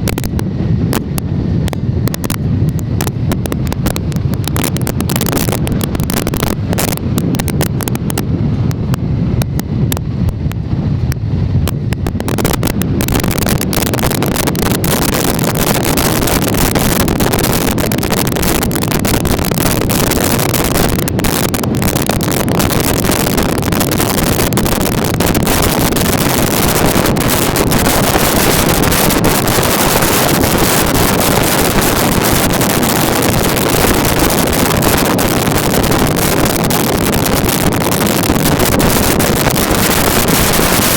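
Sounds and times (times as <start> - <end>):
wind buffeting crackles: 0.0 - 40.9
wind rushing on microphone: 0.0 - 40.9.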